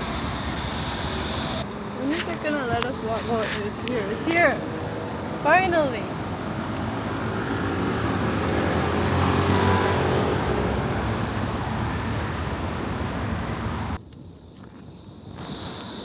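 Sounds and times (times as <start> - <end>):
vehicle engine rumble passing: 0.0 - 14.0
street traffic hiss: 0.0 - 16.0.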